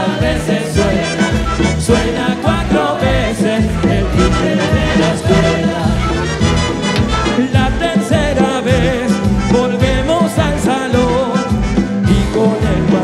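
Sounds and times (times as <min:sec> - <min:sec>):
person singing: 0:00.0 - 0:06.3, 0:07.2 - 0:13.0
bass: 0:00.0 - 0:13.0
drums: 0:00.0 - 0:13.0
wind instruments: 0:00.0 - 0:13.0.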